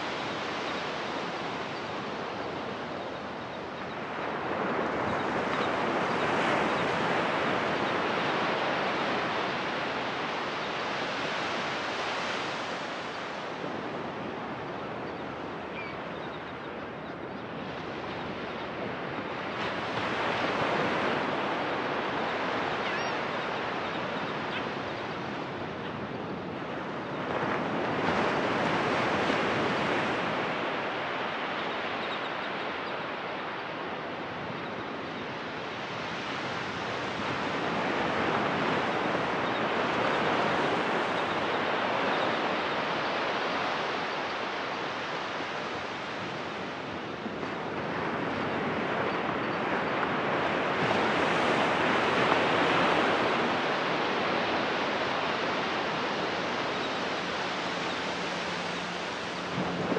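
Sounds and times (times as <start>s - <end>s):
ocean surf breaking on beach: 0.0s - 16.1s, 16.7s - 59.9s.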